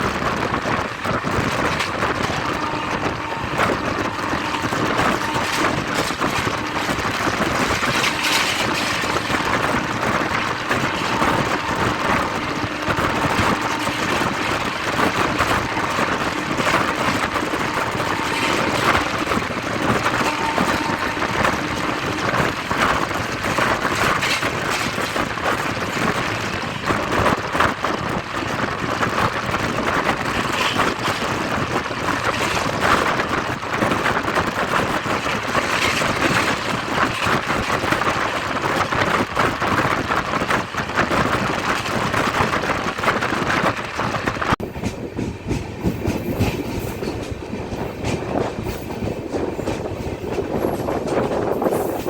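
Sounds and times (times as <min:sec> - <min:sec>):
train wheels clattering over joints: 0:00.0 - 0:52.0.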